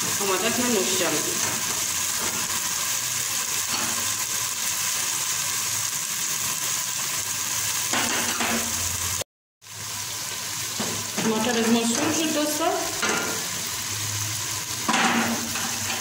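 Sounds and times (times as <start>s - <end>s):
tomatoes sizzling in oil: 0.0s - 16.0s.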